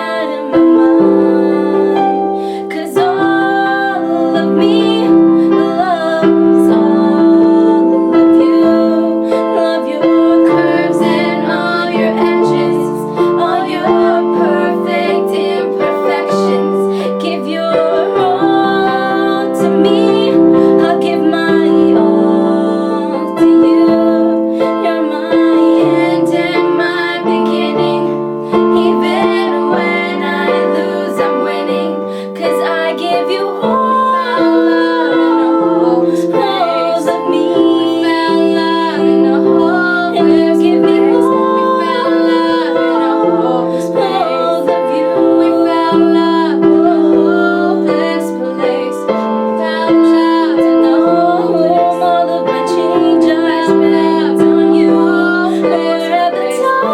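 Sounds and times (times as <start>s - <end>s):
piano chords: 0.0s - 56.9s
women singing: 0.0s - 56.9s.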